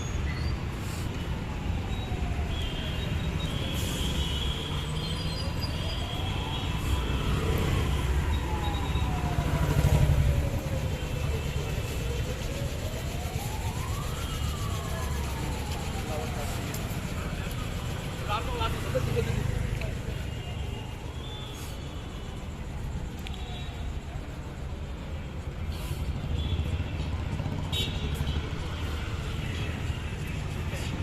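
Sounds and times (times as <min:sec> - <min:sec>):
city road traffic: 0:00.0 - 0:31.0
wailing siren tone: 0:00.5 - 0:25.5.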